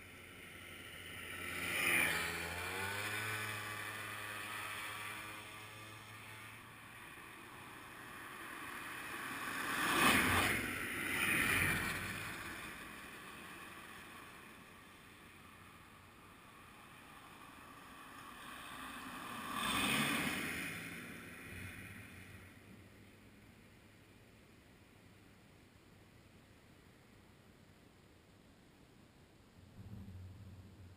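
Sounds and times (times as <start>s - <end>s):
vehicles passing by: 0.0s - 25.6s.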